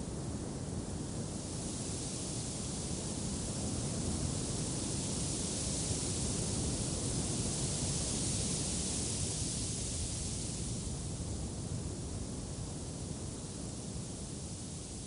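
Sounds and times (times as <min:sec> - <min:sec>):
steady wind hiss: 0:00.0 - 0:15.0.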